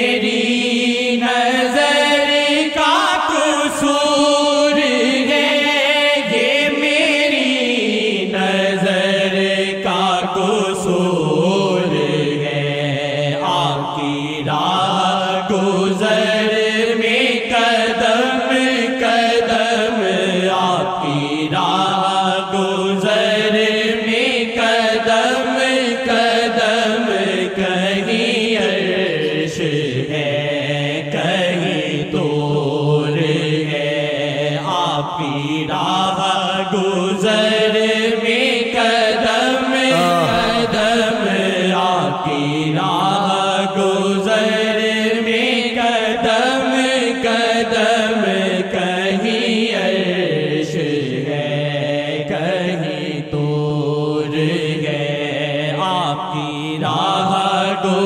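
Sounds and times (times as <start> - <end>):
person singing devotional hymn: 0.0 - 58.0.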